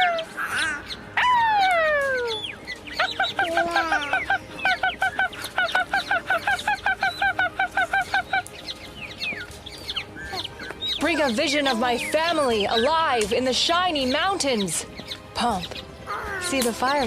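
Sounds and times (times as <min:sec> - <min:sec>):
eagle chittering piping notes: 0:00.0 - 0:15.8.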